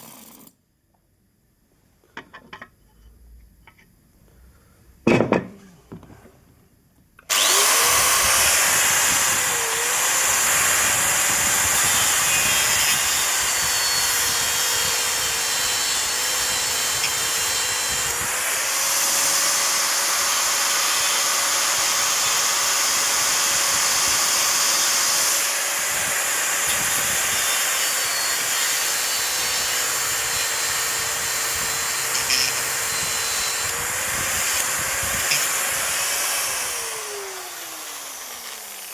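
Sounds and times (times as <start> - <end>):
electric grinder cutting acrylic: 7.3 - 38.9.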